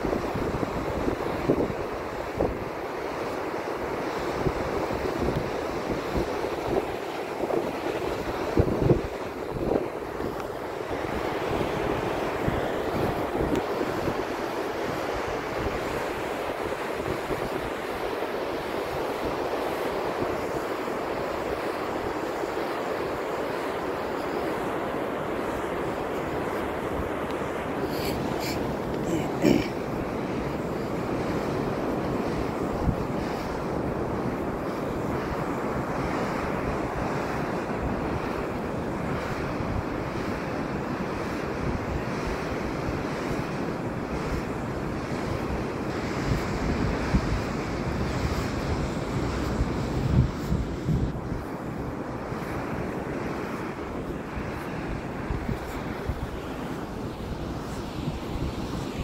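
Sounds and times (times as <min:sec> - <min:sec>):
ocean surf: 0:00.0 - 0:59.0
wind: 0:00.0 - 0:59.0
wind buffeting microphone: 0:00.0 - 0:59.0.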